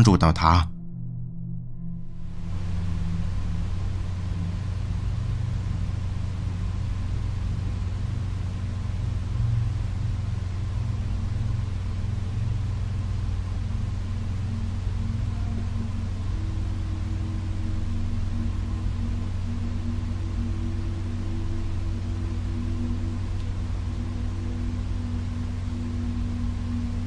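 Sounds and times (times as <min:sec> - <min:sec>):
low rumbling drone: 0:00.6 - 0:27.0
sustained higher tones: 0:00.7 - 0:27.0.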